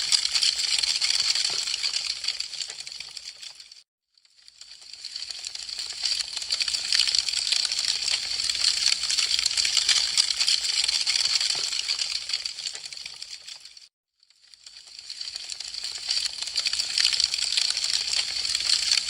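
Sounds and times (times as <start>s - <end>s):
burning wood crackling: 0.1s - 3.6s, 4.6s - 13.8s, 14.7s - 19.0s.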